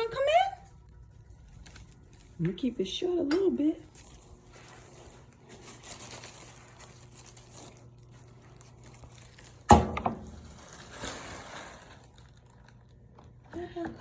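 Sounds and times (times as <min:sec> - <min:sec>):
faint steady hum: 0:00.0 - 0:14.0
soft rustling and crinkling: 0:00.0 - 0:14.0.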